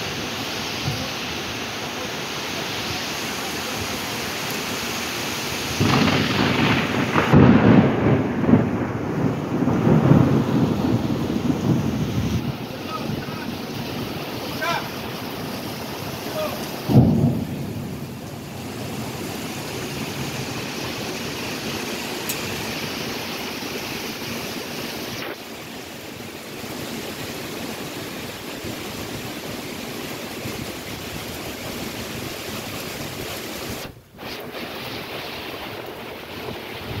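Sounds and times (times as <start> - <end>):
floodwater rushing: 0.0 - 37.0
heavy rain: 0.0 - 37.0.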